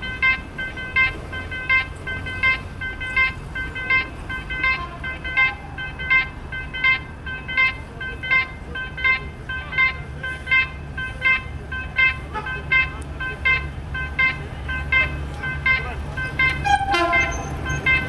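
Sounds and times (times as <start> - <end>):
level-crossing warning bell: 0.0 - 18.0.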